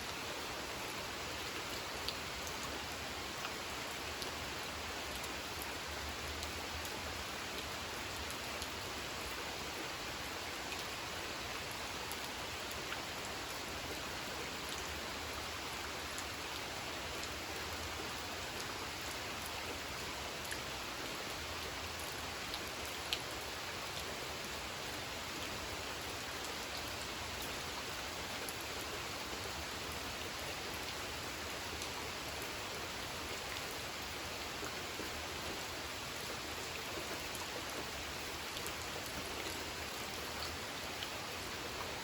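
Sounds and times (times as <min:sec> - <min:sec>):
rain falling on a pond: 0:00.0 - 0:42.0.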